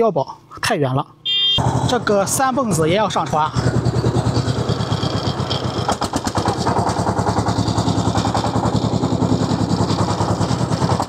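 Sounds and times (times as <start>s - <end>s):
motor tricycle engine chugging: 1.6s - 11.0s.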